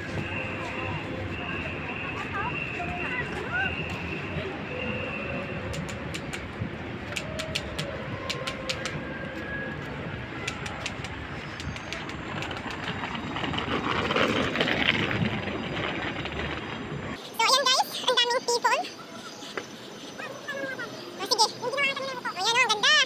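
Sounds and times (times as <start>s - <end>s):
traffic hum: 0.0s - 23.0s.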